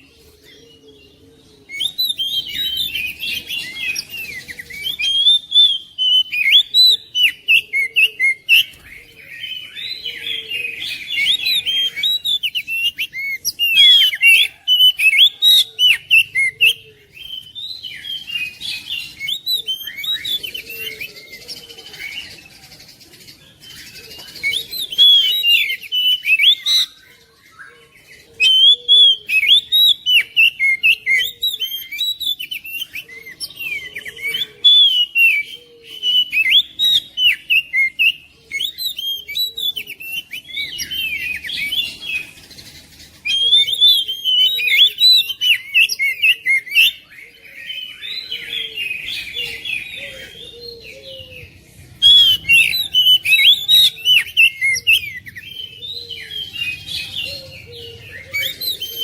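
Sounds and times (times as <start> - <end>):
bird singing whistled song: 0.0 - 22.7, 23.7 - 59.0.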